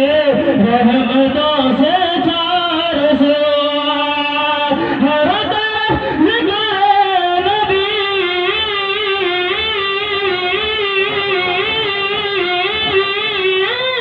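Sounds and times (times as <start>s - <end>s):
man singing over loudspeakers: 0.0s - 14.0s.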